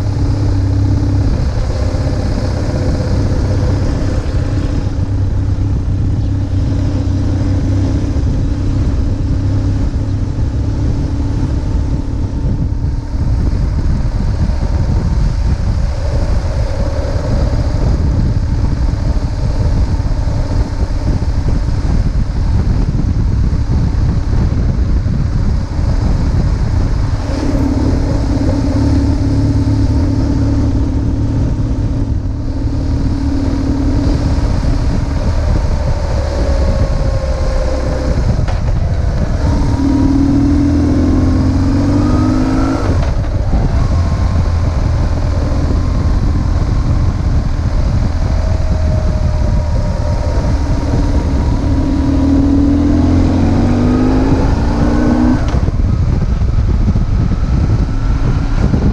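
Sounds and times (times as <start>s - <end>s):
motorcycle engine accelerating: 0.0s - 58.9s
wind rushing: 0.0s - 58.9s.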